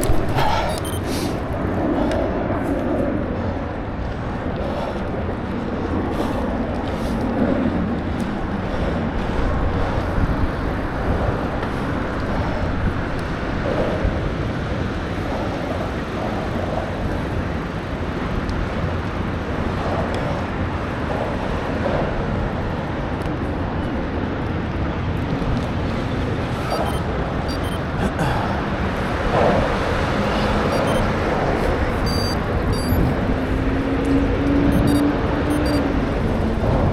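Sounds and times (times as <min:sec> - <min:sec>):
road and traffic noise: 0:00.0 - 0:36.9.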